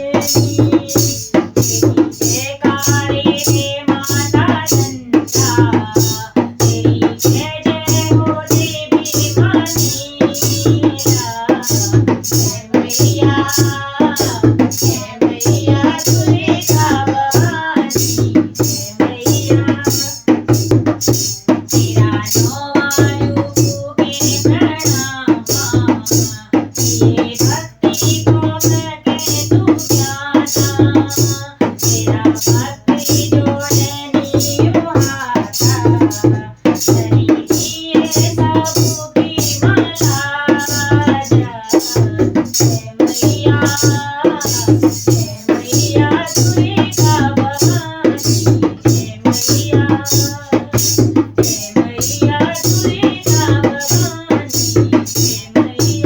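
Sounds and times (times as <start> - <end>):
background music with sharp percussion: 0.0 - 56.0.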